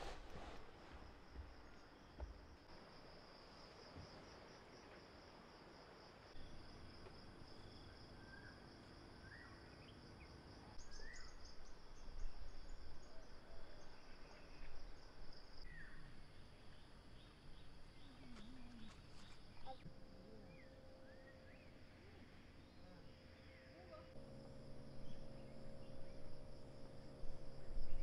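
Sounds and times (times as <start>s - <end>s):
insects trilling: 1.2s - 28.0s.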